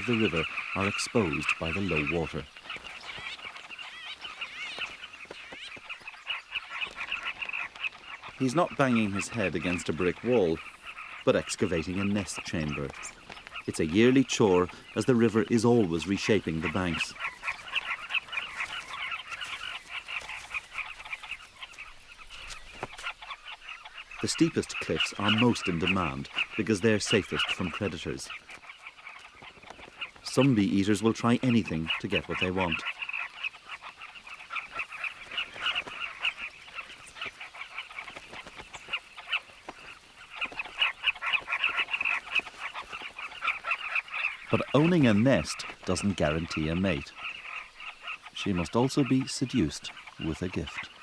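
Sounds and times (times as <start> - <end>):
bird colony chattering: 0.0 - 51.0.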